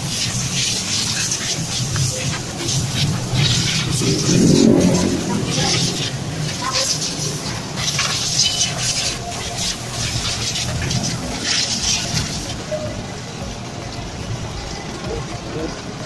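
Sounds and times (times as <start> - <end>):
hose spraying water: 0.0 - 15.9.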